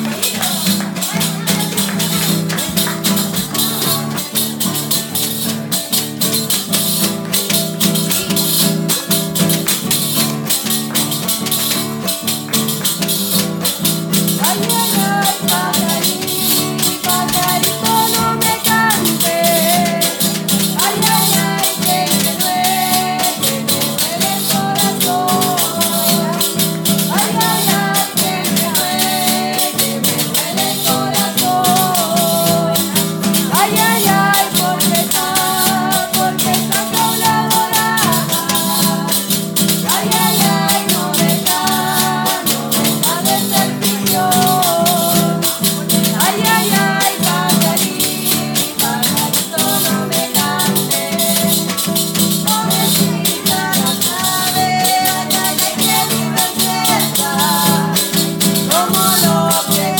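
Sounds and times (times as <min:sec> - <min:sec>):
women singing: 0:00.0 - 0:05.9, 0:07.5 - 0:59.9
strummed acoustic guitar: 0:00.0 - 0:59.9
tambourine shaken: 0:00.0 - 0:59.9.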